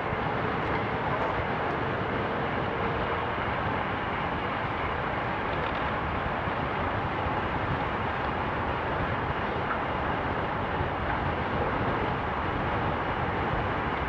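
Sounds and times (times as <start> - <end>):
bicycle road noise: 0.0 - 14.0
wind rushing over microphone: 0.0 - 14.0.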